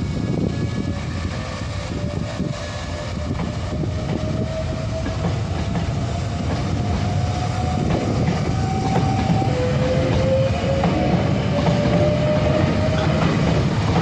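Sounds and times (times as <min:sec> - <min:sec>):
rising train whine: 0:00.0 - 0:14.0
train wheels clattering: 0:00.5 - 0:14.0.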